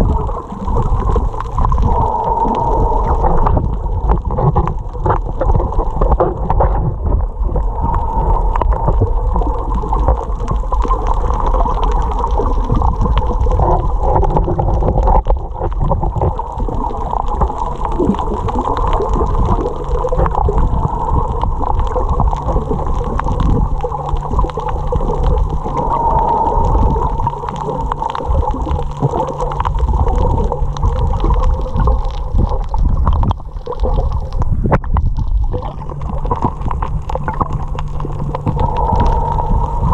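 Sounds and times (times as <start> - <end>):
small crackling clicks: 0.0 - 39.9
water gurgling and sloshing: 0.0 - 39.9.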